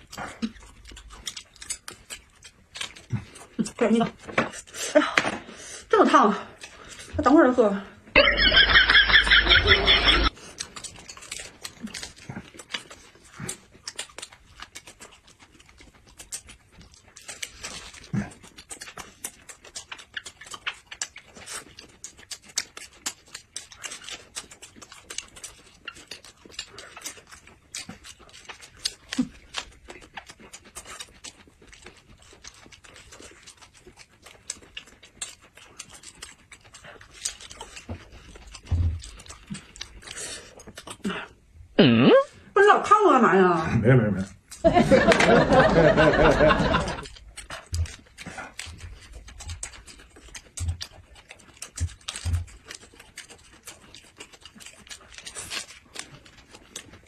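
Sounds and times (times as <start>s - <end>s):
wet mouth sounds: 0.0s - 7.2s, 9.2s - 42.6s, 46.2s - 57.0s
chewing and biting: 0.0s - 41.6s, 44.2s - 57.0s.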